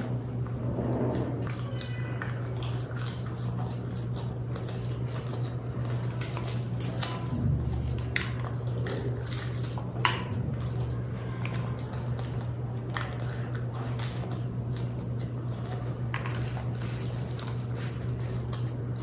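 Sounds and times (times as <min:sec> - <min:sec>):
chewing with wet mouth clicks: 0:00.0 - 0:19.0
steady low hum: 0:00.0 - 0:19.0.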